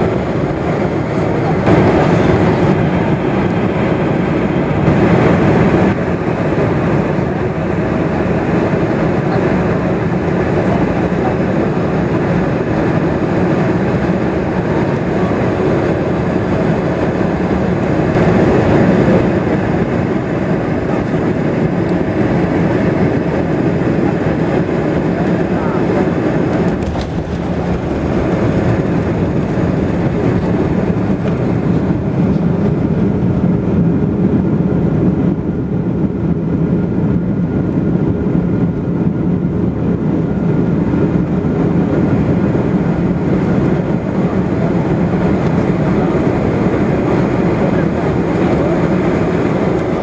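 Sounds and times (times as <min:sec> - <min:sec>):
airliner cabin engine noise: 0:00.0 - 0:50.0.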